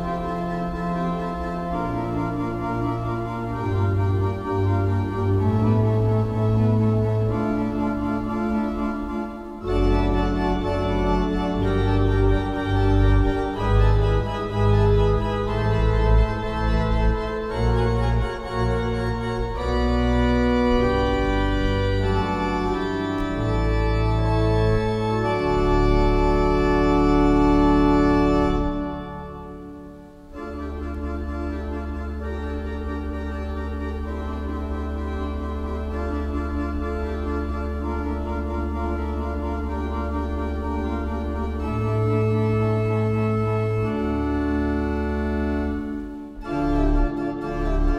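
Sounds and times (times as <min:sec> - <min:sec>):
pipe organ chords: 0:00.0 - 0:47.9.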